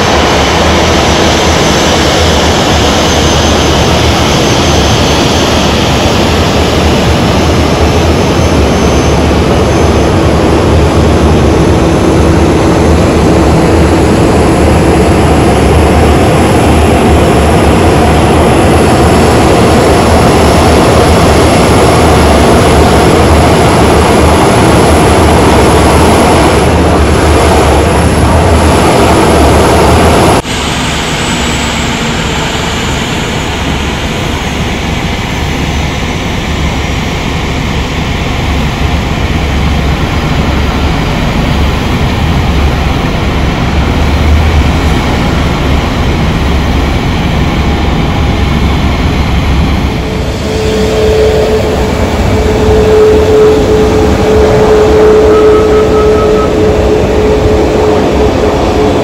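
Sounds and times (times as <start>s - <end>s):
aircraft engine noise: 0.0s - 59.0s
thin high engine whine: 0.0s - 59.0s.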